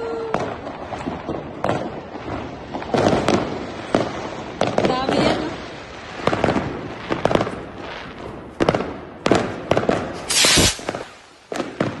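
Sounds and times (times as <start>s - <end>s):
fireworks bangs and pops: 0.0s - 12.0s
fireworks hissing crackle: 0.0s - 12.0s.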